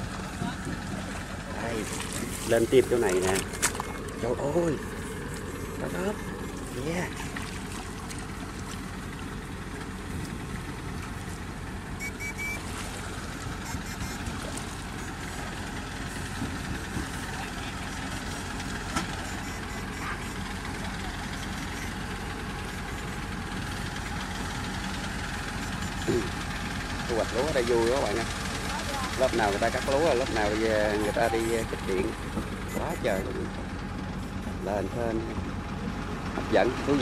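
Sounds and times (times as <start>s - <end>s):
engine running with fast knock: 0.0s - 37.0s.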